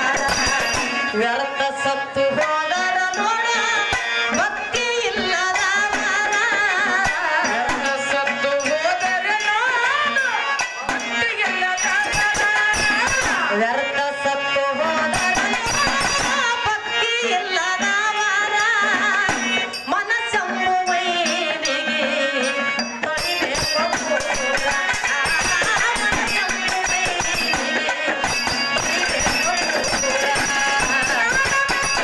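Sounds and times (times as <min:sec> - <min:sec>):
percussion strokes: 0:00.0 - 0:32.0
wavering devotional melody: 0:00.0 - 0:32.0.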